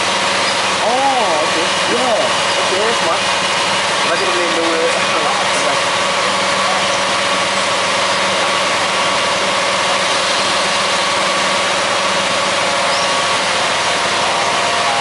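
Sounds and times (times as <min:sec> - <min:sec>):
machinery engine idling: 0:00.0 - 0:15.0.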